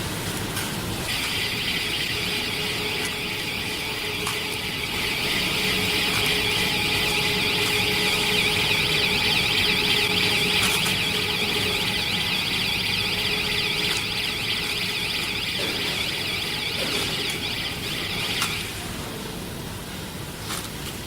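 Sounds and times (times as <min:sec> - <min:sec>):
machine hum: 0:00.0 - 0:20.3
warbling electronic alarm: 0:01.0 - 0:19.1.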